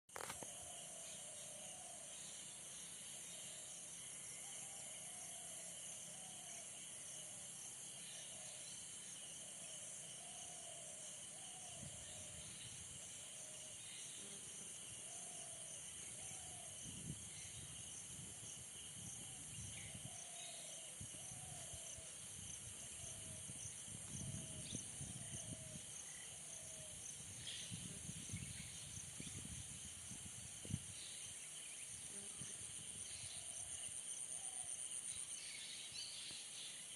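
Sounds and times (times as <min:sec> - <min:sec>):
repeated lower insect calls: 0:00.1 - 0:36.9
high shrill insect chorus: 0:00.2 - 0:36.9.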